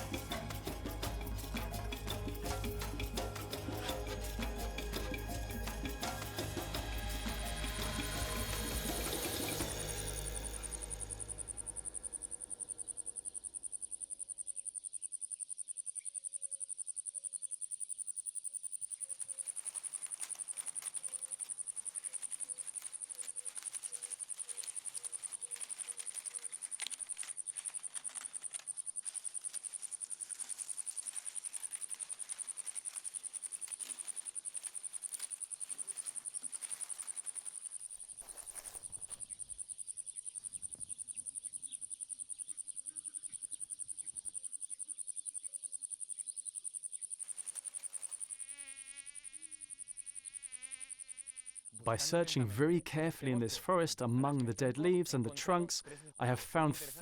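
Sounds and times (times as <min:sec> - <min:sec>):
insect trilling: 0:00.0 - 0:52.0.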